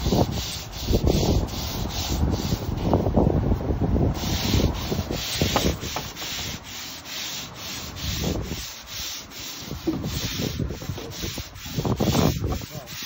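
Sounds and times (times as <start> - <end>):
brushes scrubbing wet decking: 0.0 - 3.4, 4.0 - 13.0.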